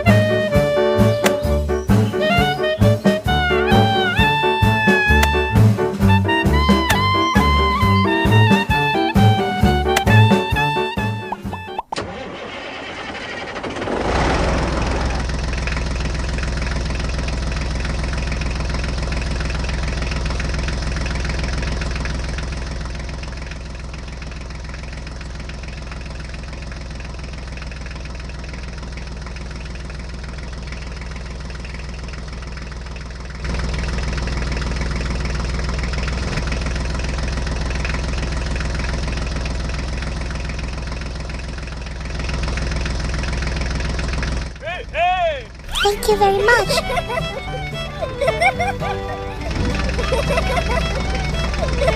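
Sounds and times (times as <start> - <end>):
engine idling: 0.0 - 45.8, 46.8 - 51.9.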